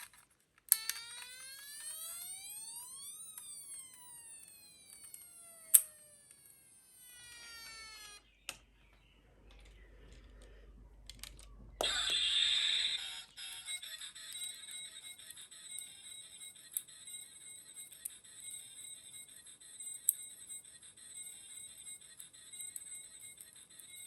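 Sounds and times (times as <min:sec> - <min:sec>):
toy electronic siren wailing: 0:00.7 - 0:08.3, 0:11.3 - 0:24.0.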